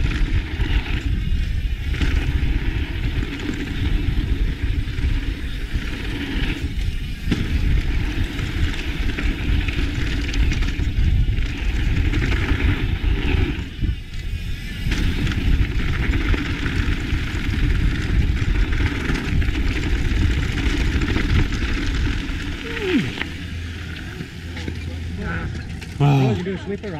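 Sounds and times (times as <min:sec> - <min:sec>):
wind rushing over microphone: 0:00.0 - 0:23.6
bike tyres rolling over dirt: 0:00.0 - 0:26.9.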